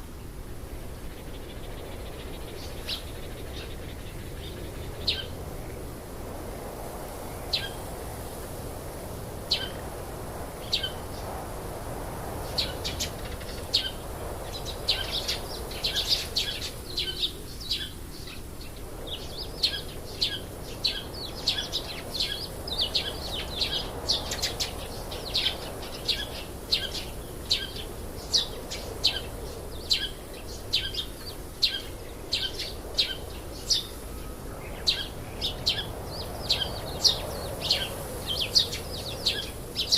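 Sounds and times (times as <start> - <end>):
low background noise: 0.0 - 39.9
small birds chirping: 0.6 - 8.4, 9.4 - 39.9.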